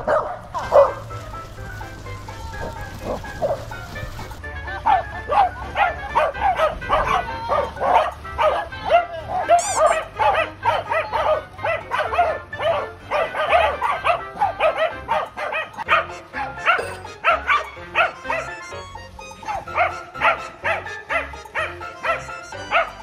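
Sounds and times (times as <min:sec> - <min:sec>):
dogs barking and yipping: 0:00.0 - 0:23.0.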